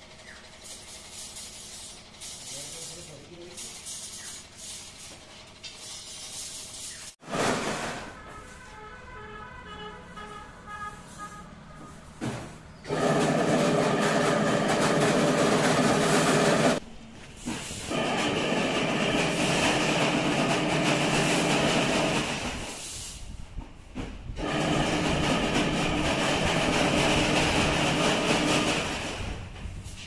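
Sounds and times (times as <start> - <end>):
machinery humming and rattling: 0.0 - 8.7, 10.2 - 30.0.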